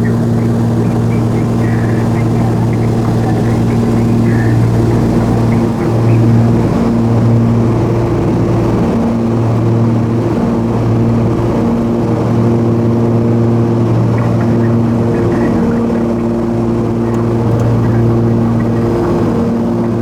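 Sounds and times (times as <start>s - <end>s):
twin piston aircraft engines droning: 0.0s - 20.0s.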